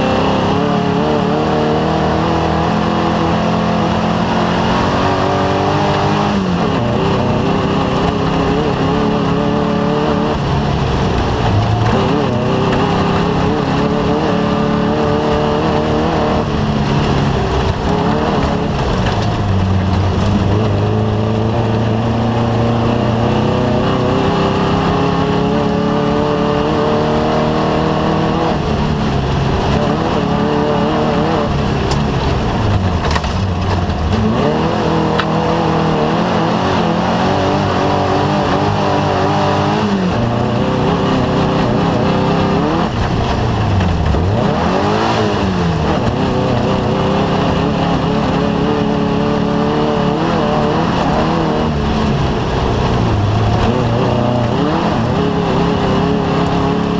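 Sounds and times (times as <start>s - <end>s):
race vehicle engine revving: 0.0s - 56.9s
steady rushing noise: 0.0s - 56.9s.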